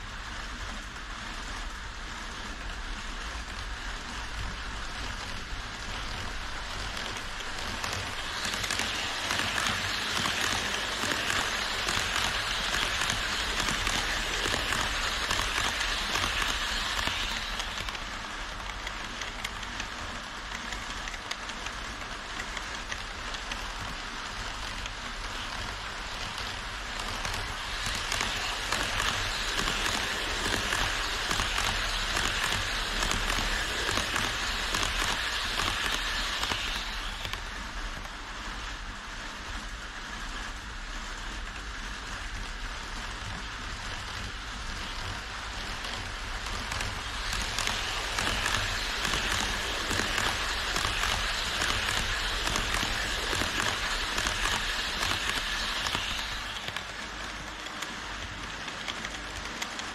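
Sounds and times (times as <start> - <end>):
model train wheels clattering on rails: 0.0 - 59.9
model train motor humming: 3.8 - 38.8, 43.9 - 59.9.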